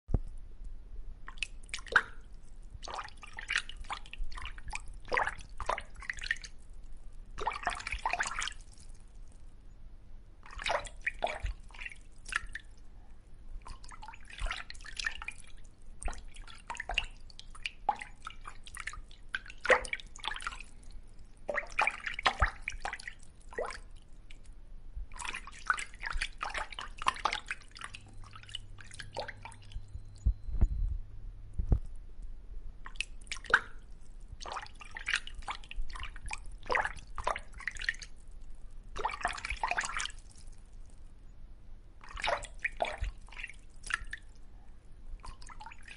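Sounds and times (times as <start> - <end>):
faint low hum: 0.1 - 45.9
water dripping and bubbling: 1.2 - 9.6, 10.4 - 30.7, 32.8 - 41.1, 42.0 - 45.9.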